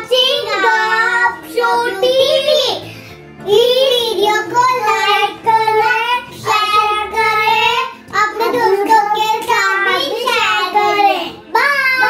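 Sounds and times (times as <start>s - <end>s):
girls singing: 0.0s - 12.0s.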